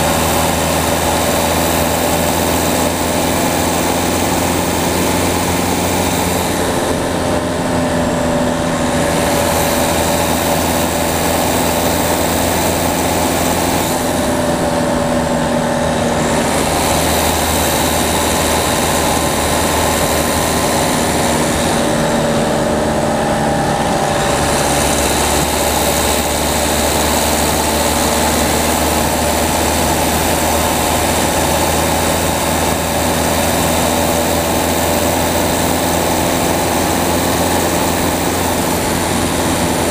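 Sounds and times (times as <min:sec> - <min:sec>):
diesel car engine running: 0:00.0 - 0:39.9
road and wind noise: 0:00.0 - 0:39.9.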